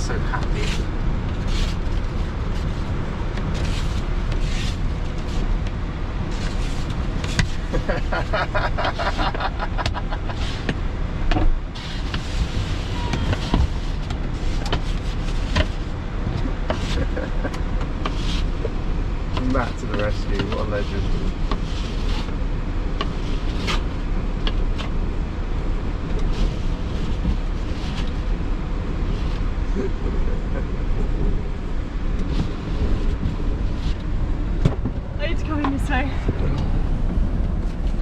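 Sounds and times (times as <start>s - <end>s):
wind buffeting a van: 0.0s - 38.0s.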